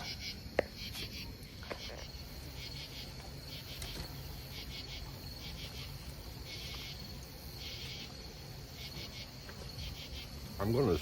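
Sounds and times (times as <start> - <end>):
crickets chirping: 0.0 - 11.0
low steady hum: 0.0 - 11.0.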